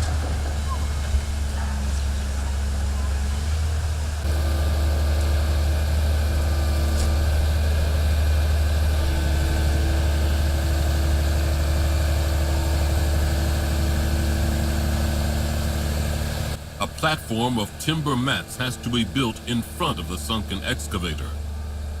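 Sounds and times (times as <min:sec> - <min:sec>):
heavy machinery engine humming: 0:00.0 - 0:22.0.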